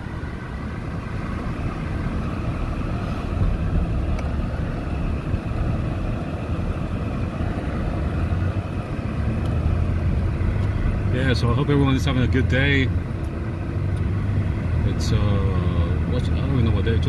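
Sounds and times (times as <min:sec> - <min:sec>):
car interior road and engine rumble: 0:00.0 - 0:17.0.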